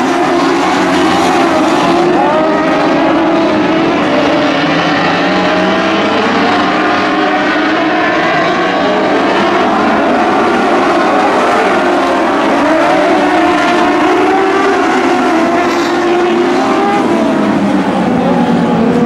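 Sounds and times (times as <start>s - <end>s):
high-revving race car engines: 0.0s - 19.0s.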